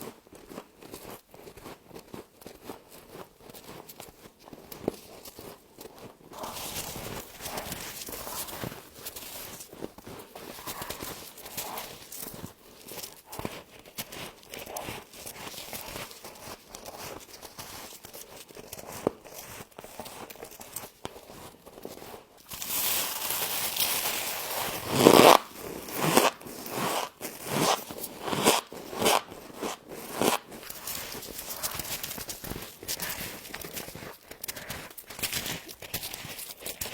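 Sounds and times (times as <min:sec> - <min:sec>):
chewing crunchy frost: 0:00.1 - 0:36.9.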